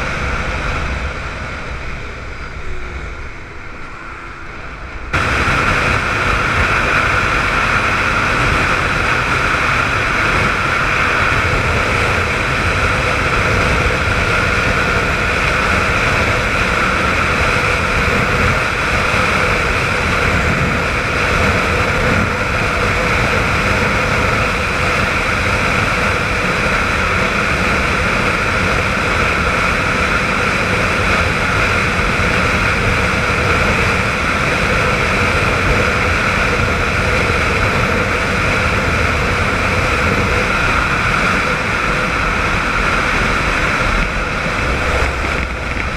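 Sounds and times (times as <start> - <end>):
motorcycle engine cruising: 0.0 - 45.9
riding wind rush: 0.0 - 45.9.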